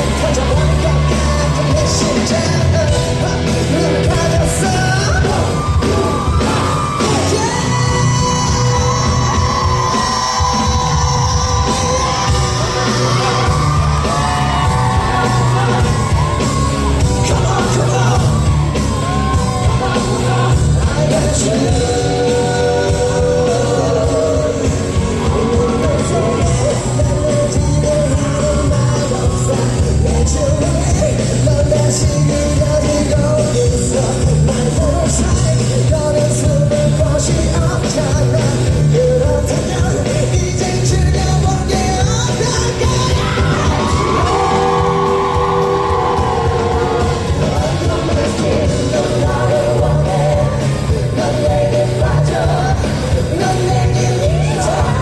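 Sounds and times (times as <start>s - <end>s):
full band playing: 0.0s - 55.0s
man singing: 0.0s - 55.0s
steady bass line: 0.0s - 55.0s.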